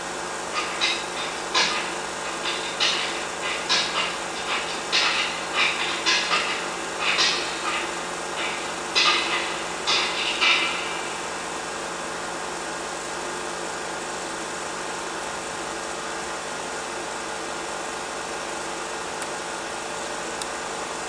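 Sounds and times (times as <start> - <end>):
film projector hum and hiss: 0.0 - 21.0.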